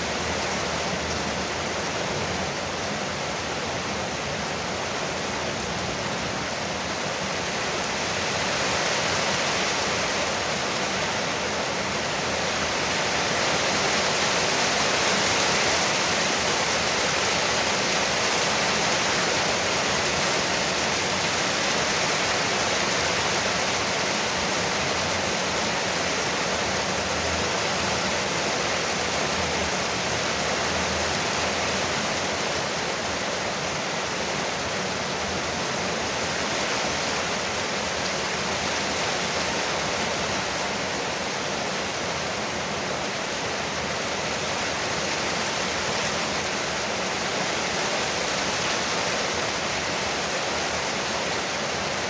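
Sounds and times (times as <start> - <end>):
heavy rain on roof: 0.0 - 52.0.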